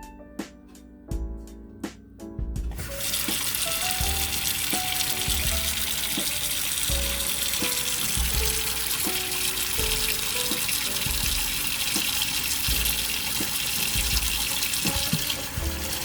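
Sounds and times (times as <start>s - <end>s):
tap water running into bowl: 2.7s - 16.0s.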